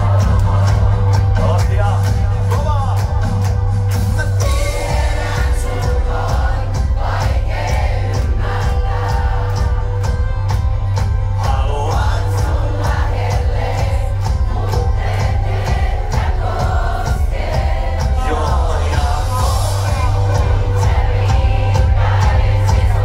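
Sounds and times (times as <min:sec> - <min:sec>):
many voices singing: 0:00.0 - 0:02.6, 0:03.5 - 0:23.0
bass and guitars: 0:00.0 - 0:23.0
drum beat: 0:00.0 - 0:23.0
rock band playing: 0:00.0 - 0:23.0.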